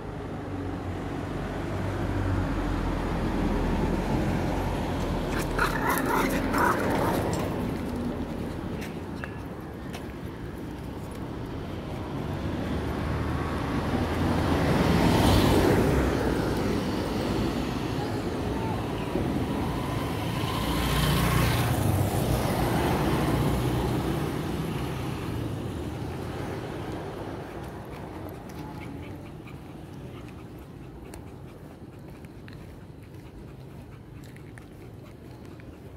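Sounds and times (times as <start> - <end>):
vehicles passing on road: 0.0 - 35.9.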